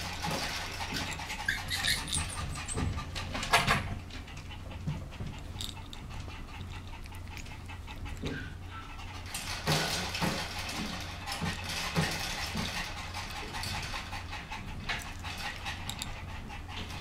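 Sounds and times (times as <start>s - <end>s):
steady low hum: 0.0s - 17.0s
puppy chewing a plush toy: 0.2s - 17.0s.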